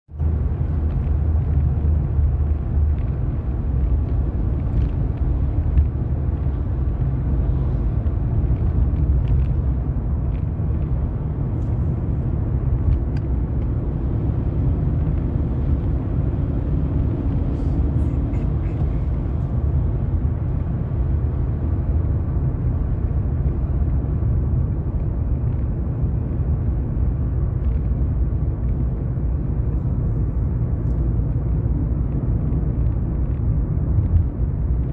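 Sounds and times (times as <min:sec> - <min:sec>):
car engine and tyres rumbling: 0:00.1 - 0:34.9.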